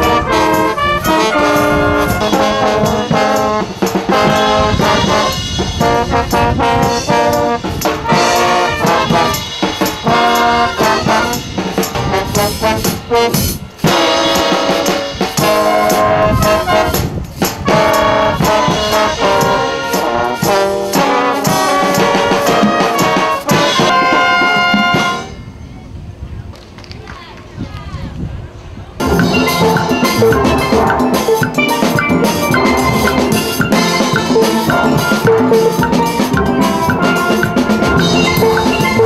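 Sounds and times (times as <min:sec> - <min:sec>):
drum kit with cymbals: 0:00.0 - 0:25.4, 0:29.0 - 0:39.0
trombones and trumpets: 0:00.0 - 0:25.6, 0:29.0 - 0:39.0
wind band playing: 0:00.0 - 0:25.6, 0:29.0 - 0:39.0.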